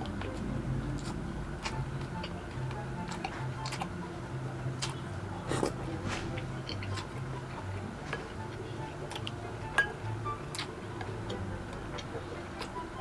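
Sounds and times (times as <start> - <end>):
chewing with sharp crunches: 0.0 - 9.8, 10.4 - 13.0
quiet background music: 0.0 - 13.0.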